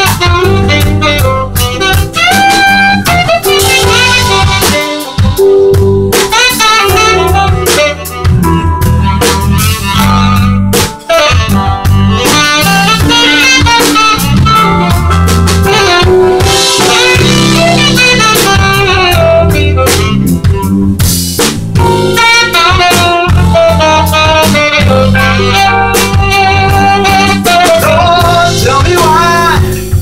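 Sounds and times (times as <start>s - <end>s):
drum kit playing: 0.0s - 30.0s
saxophone melody: 0.0s - 30.0s.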